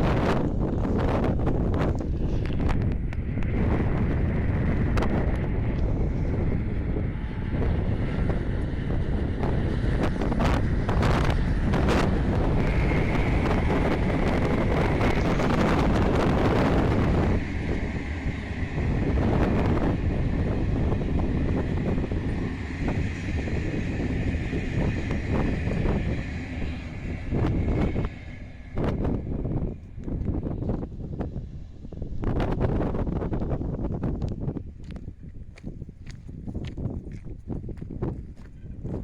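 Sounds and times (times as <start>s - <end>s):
electric train passing: 0.0s - 34.7s
wind buffeting microphone: 0.0s - 39.0s.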